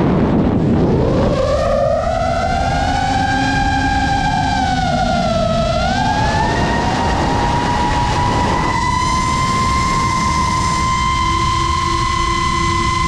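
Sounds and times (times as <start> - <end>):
drone motors whining: 0.0 - 13.0
steady rushing noise: 0.0 - 13.0.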